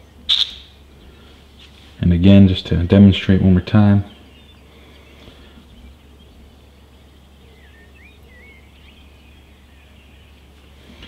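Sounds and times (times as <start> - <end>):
birds chirping: 0.0 - 11.0
low background hum: 0.0 - 11.0.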